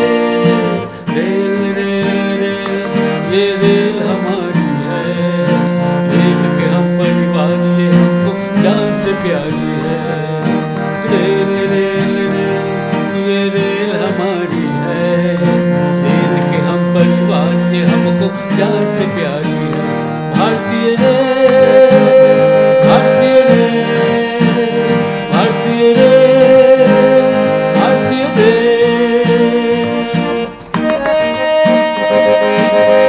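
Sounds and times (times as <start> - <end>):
long held melody notes: 0.0 - 33.0
plucked strings: 0.0 - 33.0.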